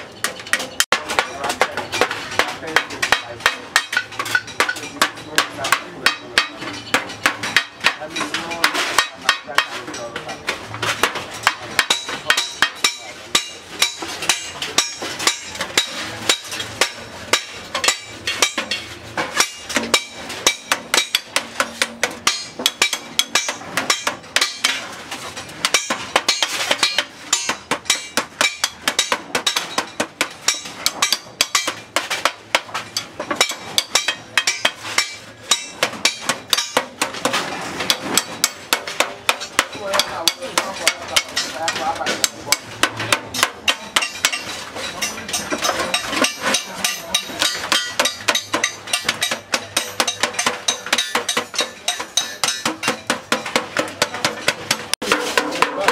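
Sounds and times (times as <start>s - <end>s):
hammer beating aluminium pan: 0.0s - 55.9s.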